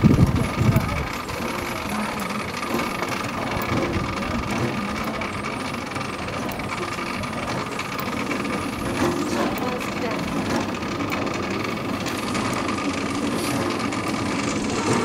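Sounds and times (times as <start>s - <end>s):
rail car rolling: 0.0s - 15.0s.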